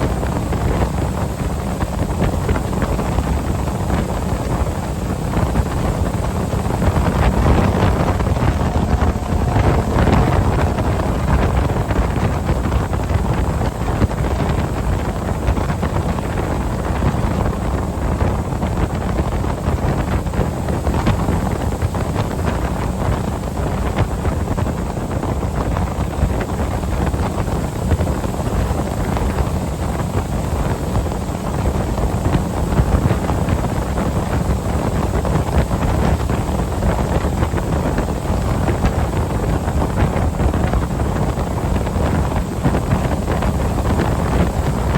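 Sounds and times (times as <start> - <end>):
boat engine rumble: 0.0 - 44.9
wind buffeting microphone: 0.0 - 44.9.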